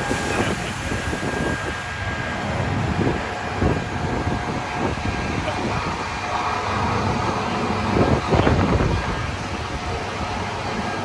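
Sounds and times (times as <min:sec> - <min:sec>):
street noise rumble: 0:00.0 - 0:11.0
wind buffeting microphone: 0:00.0 - 0:11.0.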